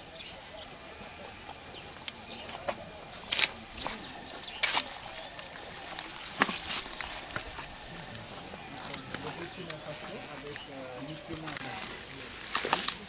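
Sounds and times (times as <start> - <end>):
high-pitched insect drone: 0.0 - 13.0
rustling: 1.9 - 13.0.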